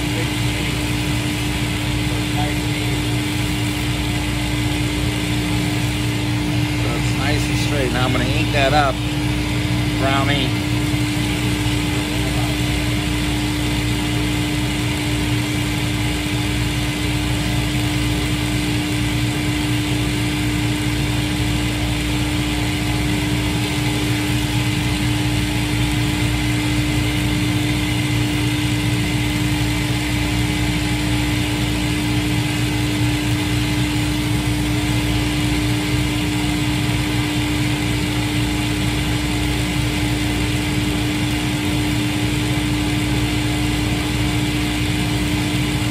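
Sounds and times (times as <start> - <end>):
high machine whine: 0.0 - 45.9
shoe finishing machine humming: 0.0 - 45.9.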